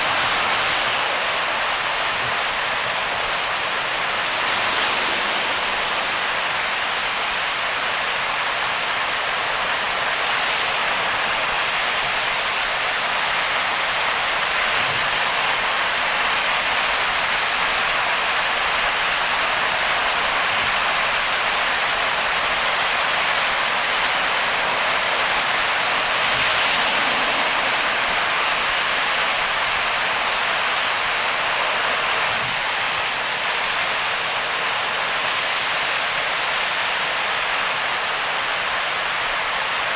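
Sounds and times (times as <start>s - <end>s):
heavy rain on a car: 0.0s - 5.2s, 6.0s - 39.8s.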